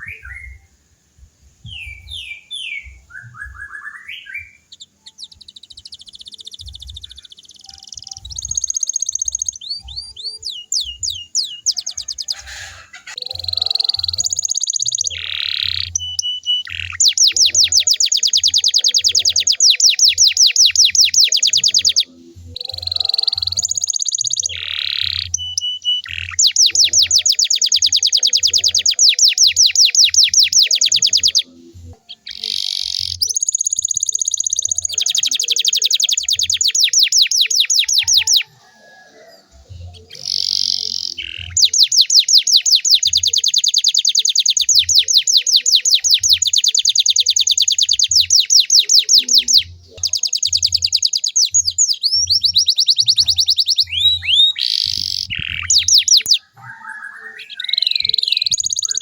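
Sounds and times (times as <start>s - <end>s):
canary singing trills: 1.5s - 59.0s.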